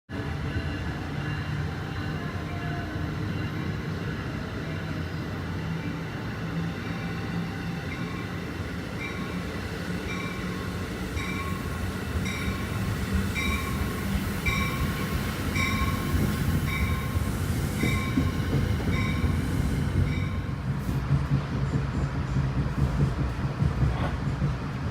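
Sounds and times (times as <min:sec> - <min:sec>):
train rumbling: 0:00.1 - 0:24.9.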